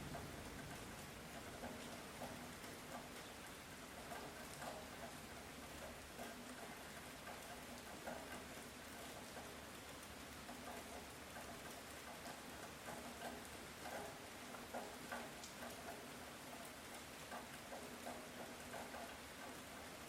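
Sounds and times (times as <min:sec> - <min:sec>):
light rain hiss: 0:00.0 - 0:20.0
raindrops ticking: 0:00.0 - 0:20.0.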